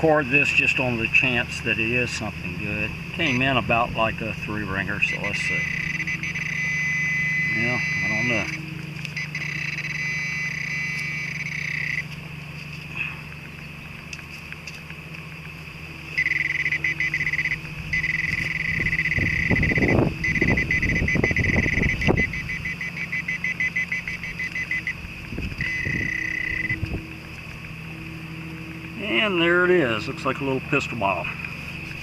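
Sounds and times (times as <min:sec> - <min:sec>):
cicadas buzzing: 0:00.0 - 0:32.0
steady low hum: 0:00.0 - 0:32.0.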